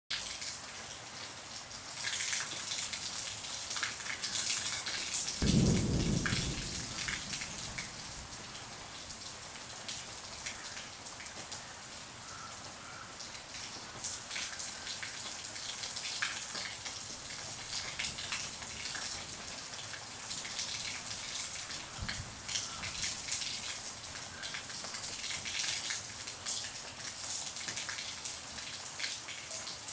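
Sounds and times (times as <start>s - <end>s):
rain on leaves: 0.1s - 29.9s.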